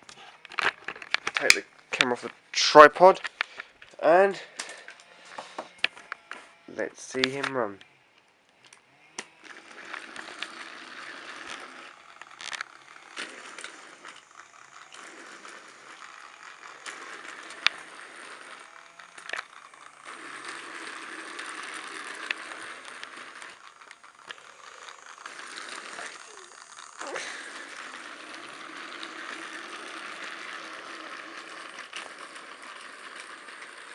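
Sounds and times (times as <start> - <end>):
toy train motor whirring: 0.0 - 33.9.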